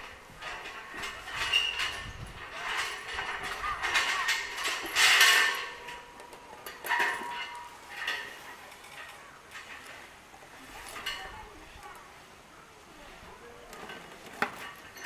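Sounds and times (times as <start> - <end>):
metal chain rattling and clanking: 0.0 - 11.6, 13.7 - 15.0.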